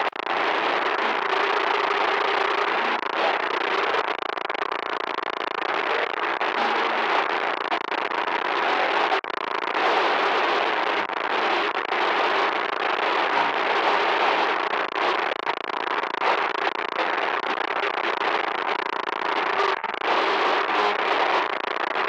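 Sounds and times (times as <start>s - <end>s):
harsh electronic static: 0.0s - 22.0s.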